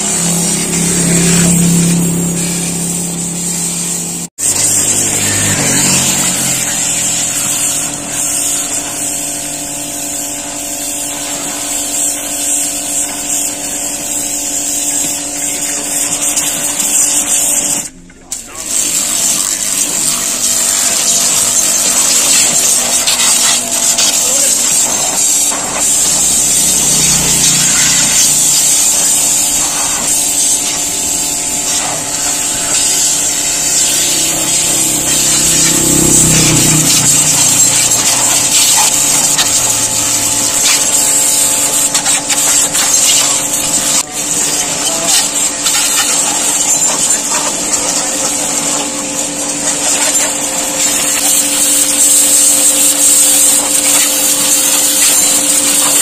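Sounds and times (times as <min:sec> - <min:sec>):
pressure washer water jet hissing: 0:00.0 - 0:56.0.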